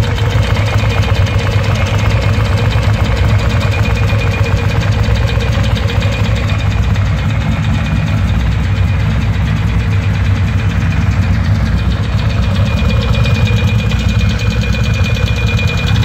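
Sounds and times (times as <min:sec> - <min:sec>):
engine mechanical knock: 0:00.0 - 0:16.0
motorcycle engine idling: 0:00.0 - 0:16.0.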